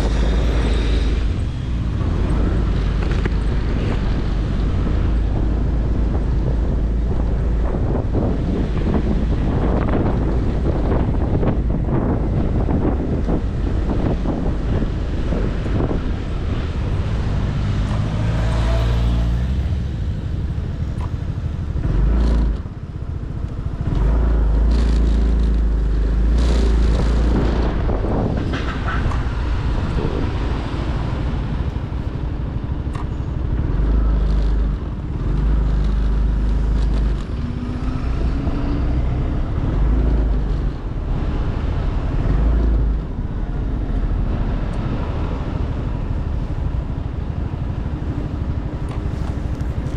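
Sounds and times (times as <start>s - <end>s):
motorcycle engine running: 0.0s - 37.8s, 45.2s - 49.9s
wind buffeting microphone: 0.0s - 49.9s.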